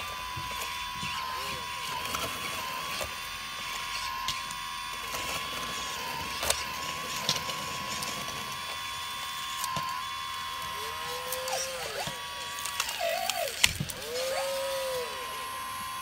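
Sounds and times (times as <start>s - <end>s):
hydraulic pump whining: 0.0s - 16.0s.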